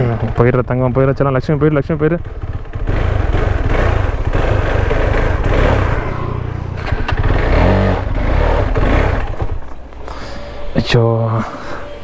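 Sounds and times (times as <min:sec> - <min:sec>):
motorcycle engine labouring uphill: 0:00.0 - 0:12.0.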